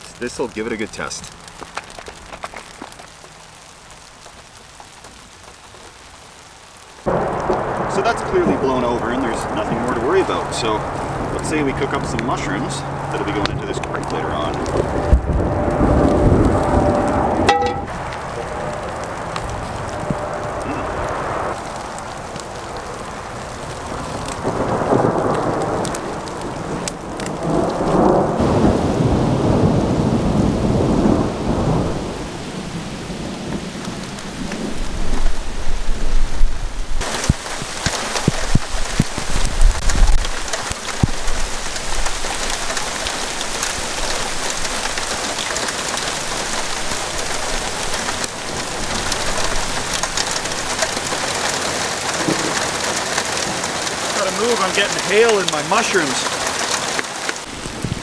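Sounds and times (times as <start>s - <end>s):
heavy rain and hail: 0.0s - 58.0s
thunder rumbling: 7.0s - 58.0s.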